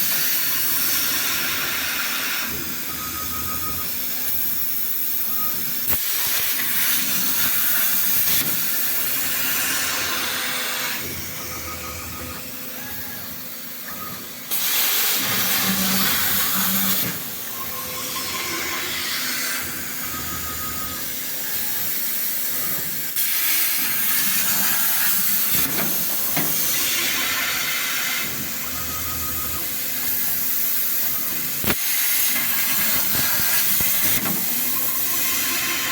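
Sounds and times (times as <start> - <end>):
plasma torch cutting sheet metal: 0.0 - 2.9, 4.0 - 11.1, 14.5 - 20.0, 21.0 - 28.5, 29.6 - 35.9.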